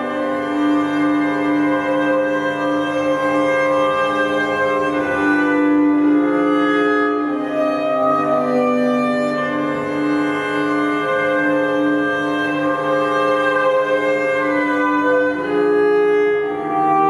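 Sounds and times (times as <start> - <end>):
cello bowed long notes: 0.0 - 17.0.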